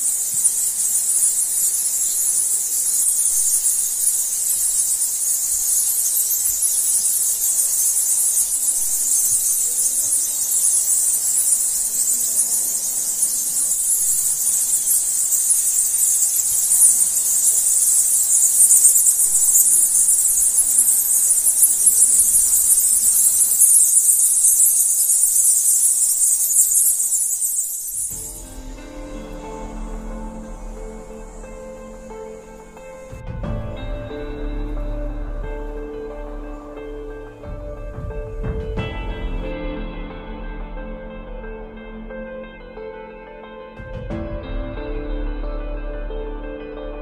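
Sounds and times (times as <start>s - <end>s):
shrill insect chorus: 0.0s - 43.3s.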